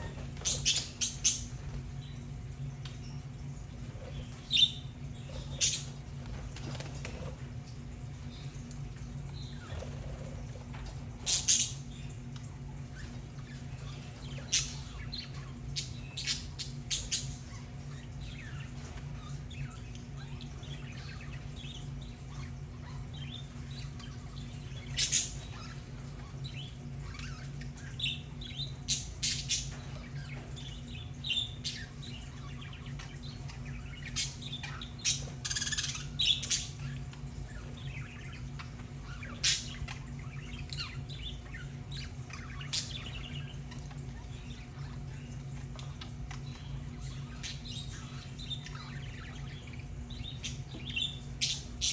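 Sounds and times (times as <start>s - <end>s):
budgerigars chirping and squawking: 0.0s - 51.9s
steady low hum: 0.0s - 51.9s.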